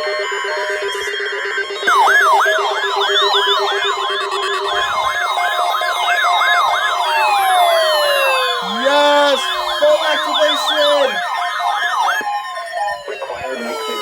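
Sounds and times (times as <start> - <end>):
steady high alarm tone: 0.2 - 14.0
fast siren sweep: 1.8 - 14.0
pulsing lower tone: 1.8 - 14.0
long falling electronic glide: 1.9 - 14.0.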